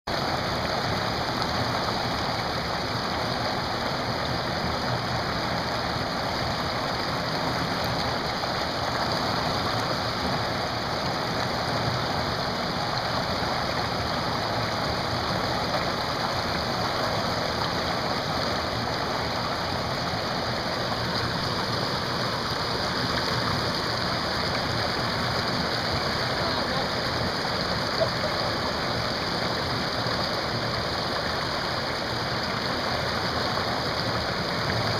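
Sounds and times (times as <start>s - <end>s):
whitewater rapids rushing: 0.1s - 34.9s.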